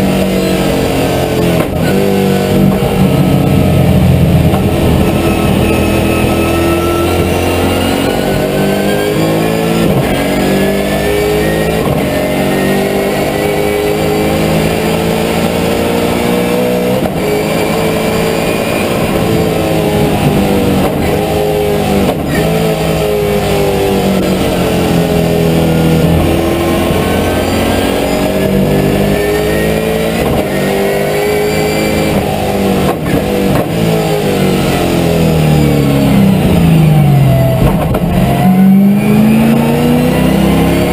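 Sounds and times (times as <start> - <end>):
race car engine at speed: 0.0 - 40.9.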